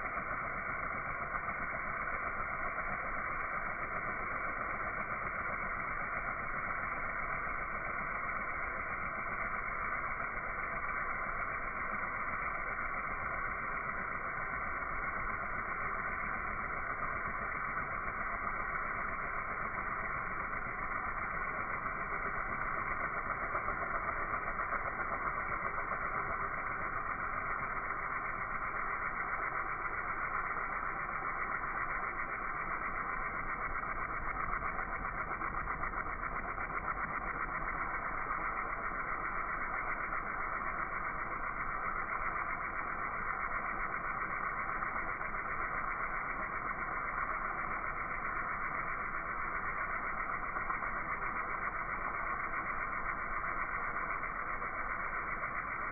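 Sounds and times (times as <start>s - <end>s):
pressure washer engine drone: 0.0s - 55.9s.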